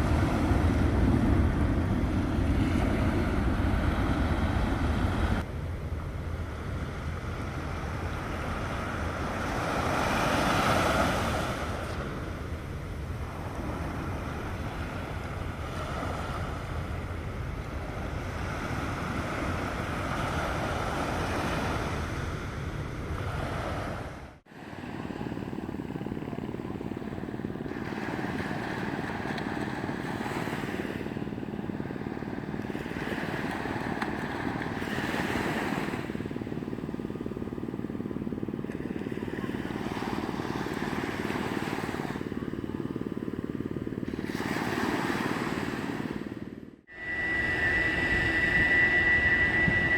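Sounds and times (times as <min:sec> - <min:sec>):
surf washing on beach: 0:00.0 - 0:05.5, 0:06.3 - 0:42.6, 0:43.9 - 0:49.9
wind buffeting microphone: 0:00.0 - 0:49.9.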